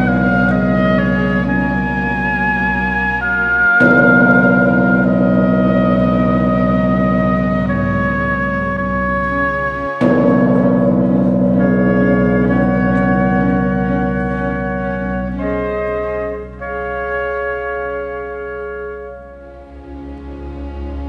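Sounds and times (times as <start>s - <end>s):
slow sustained chords: 0.0s - 21.0s.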